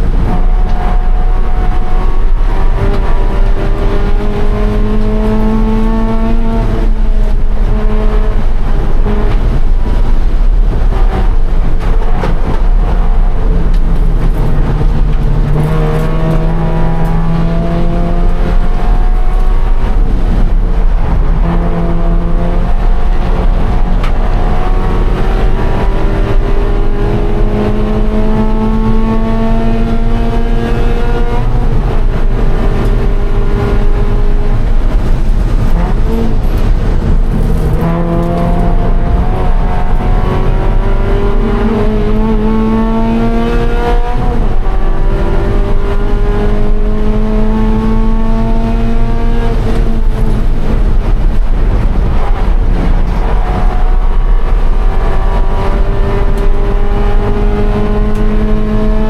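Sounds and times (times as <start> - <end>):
car engine accelerating: 0.0 - 59.0
road and wind noise: 0.0 - 59.0.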